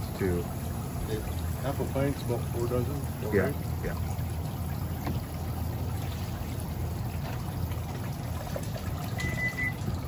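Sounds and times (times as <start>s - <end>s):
water trickling in tank: 0.0s - 10.0s.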